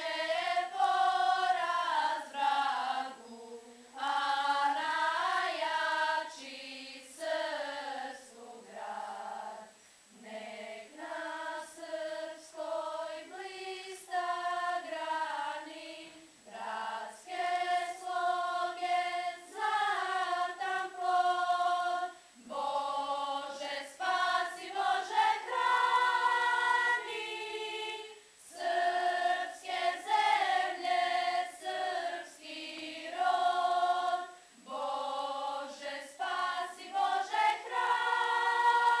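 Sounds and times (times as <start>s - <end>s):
girls' choir singing unaccompanied: 0.0s - 39.0s.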